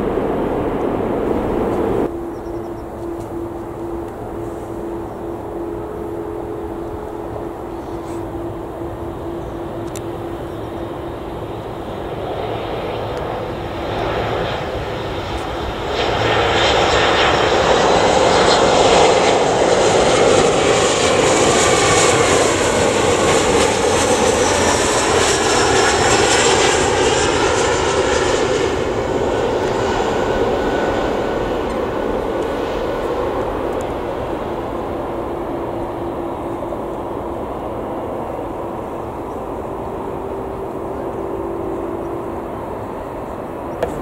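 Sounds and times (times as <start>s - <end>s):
jet engine whine and rumble: 0.0s - 44.0s.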